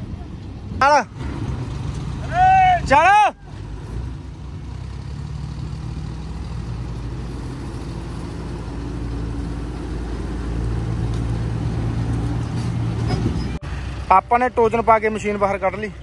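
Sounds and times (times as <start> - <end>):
diesel engines running under load: 0.0 - 16.0.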